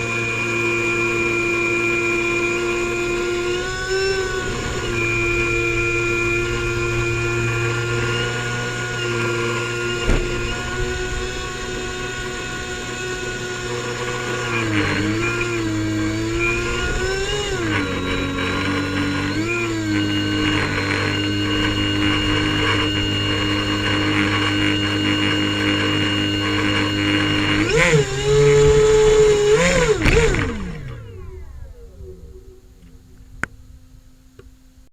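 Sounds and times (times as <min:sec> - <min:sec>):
airboat engine and propeller: 0:00.0 - 0:34.5.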